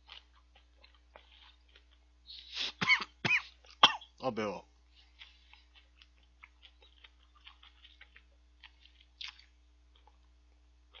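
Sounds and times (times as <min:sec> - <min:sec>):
person chewing crunchily: 0:00.0 - 0:03.8, 0:04.8 - 0:11.0.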